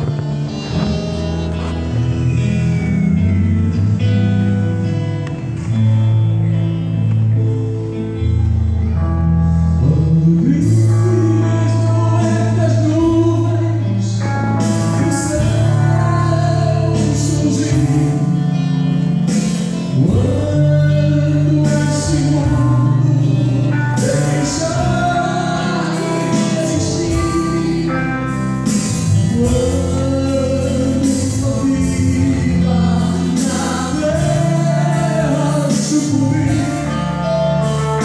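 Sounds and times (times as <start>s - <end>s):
person singing: 0.0s - 4.1s, 8.7s - 38.0s
live gospel band playing: 0.0s - 38.0s.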